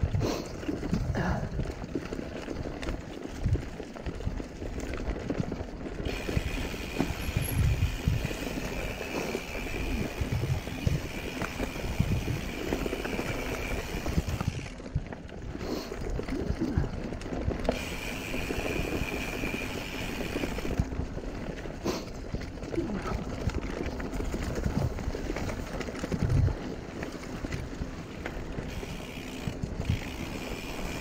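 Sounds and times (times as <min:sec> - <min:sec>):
bike rattling over bumps: 0:00.0 - 0:31.0
bike tyres crunching over leaves: 0:00.6 - 0:31.0.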